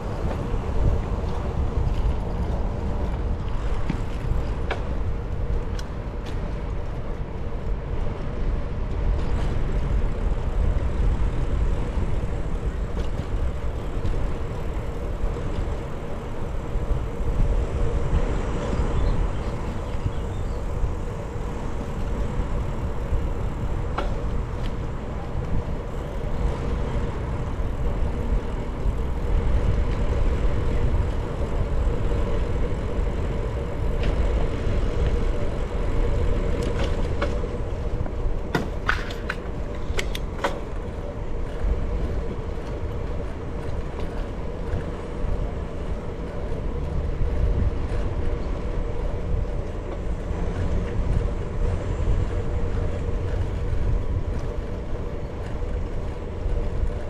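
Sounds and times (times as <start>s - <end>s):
bicycle rolling rumble: 0.0s - 57.0s
road traffic passing: 0.0s - 57.0s.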